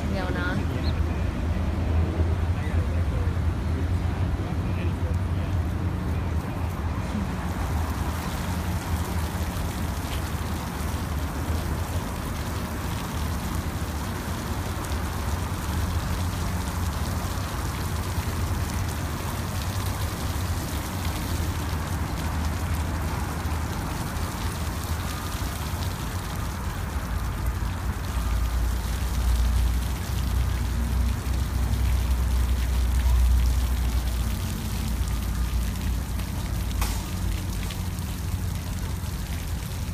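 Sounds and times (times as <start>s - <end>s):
sprinkler water pattering on ground: 4.3s - 39.9s.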